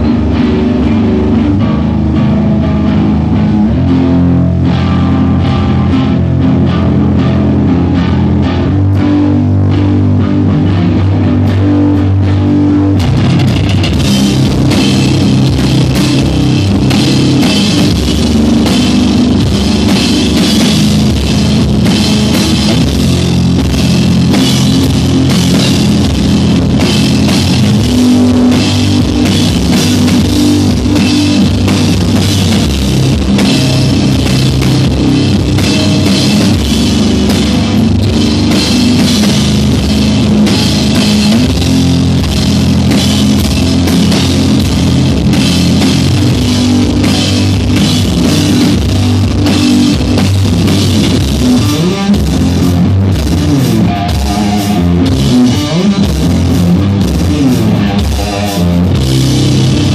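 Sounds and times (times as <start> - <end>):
distorted electric guitar: 0.0 - 59.9
pounding drum kit: 0.0 - 59.9.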